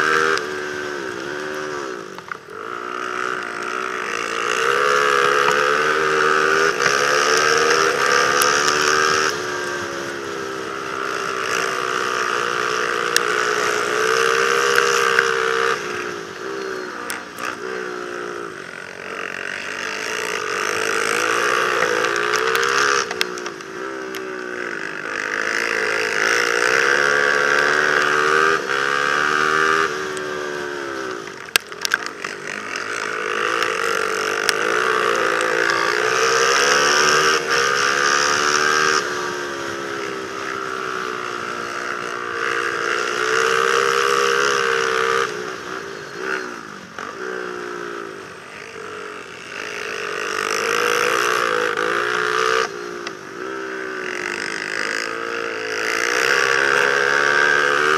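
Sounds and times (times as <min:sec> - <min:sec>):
quad engine revving: 0:00.0 - 0:57.9.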